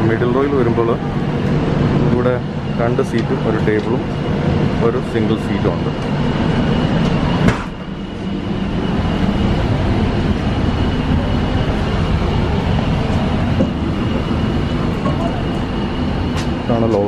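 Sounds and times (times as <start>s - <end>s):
train coach rumble: 0.0s - 17.0s.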